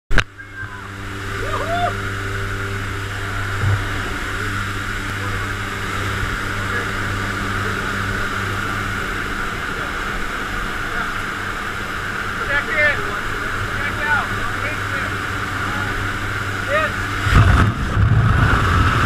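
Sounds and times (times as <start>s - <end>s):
propeller plane engine droning: 0.1s - 19.0s.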